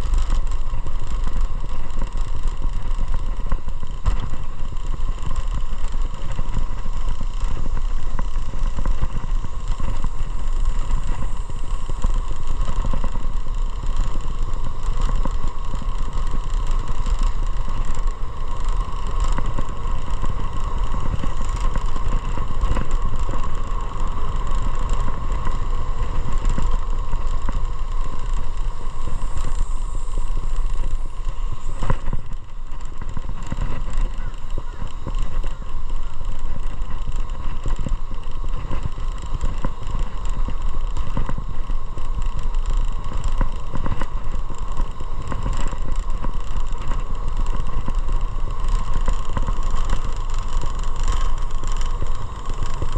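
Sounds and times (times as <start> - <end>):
motorcycle engine running: 0.0 - 52.9
road and wind noise: 0.0 - 52.9.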